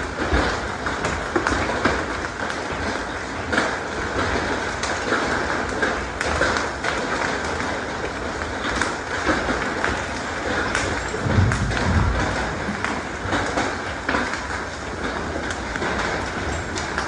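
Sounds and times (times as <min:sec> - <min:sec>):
hail and rain pelting pavement: 0:00.0 - 0:17.0.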